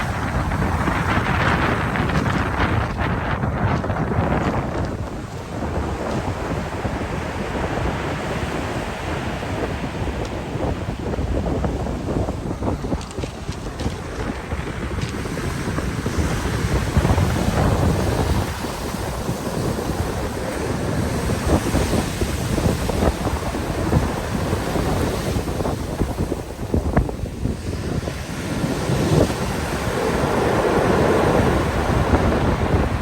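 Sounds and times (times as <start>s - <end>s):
surf breaking on shore: 0.0s - 33.0s
wind buffeting microphone: 0.0s - 33.0s.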